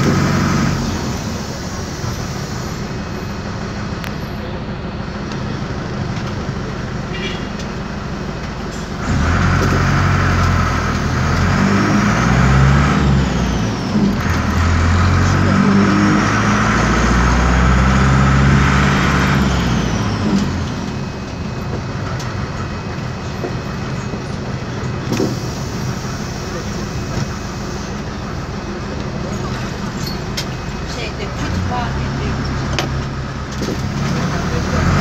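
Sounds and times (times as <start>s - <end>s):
diesel bus engine revving: 0.0s - 35.0s.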